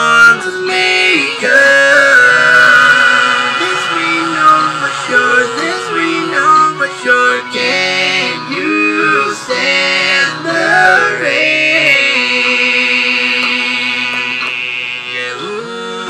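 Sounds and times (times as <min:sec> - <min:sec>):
talkbox voices in harmony: 0:00.0 - 0:16.0.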